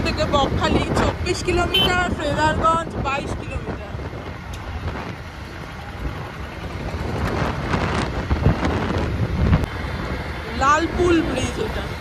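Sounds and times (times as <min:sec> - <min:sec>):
motorcycle road and engine rumble: 0:00.0 - 0:12.0
wind buffeting microphone: 0:00.0 - 0:12.0.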